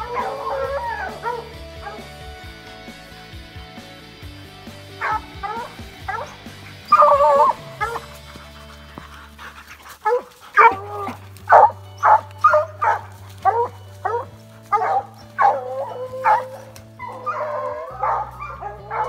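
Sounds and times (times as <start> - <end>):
background music chords: 0.0 - 19.0
hounds barking and baying: 0.0 - 19.0.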